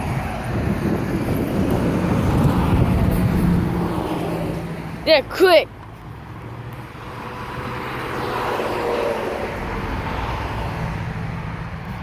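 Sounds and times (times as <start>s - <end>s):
truck driving past: 0.0s - 5.1s, 5.8s - 12.0s.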